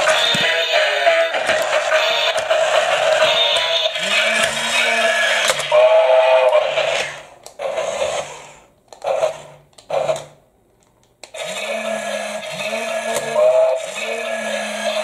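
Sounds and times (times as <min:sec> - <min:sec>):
toy gear motor whirring: 0:00.0 - 0:10.2, 0:11.3 - 0:15.0.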